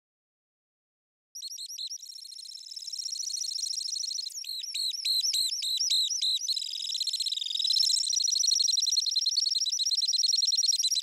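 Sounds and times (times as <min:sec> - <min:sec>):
bird singing high trill: 0:01.4 - 0:11.0.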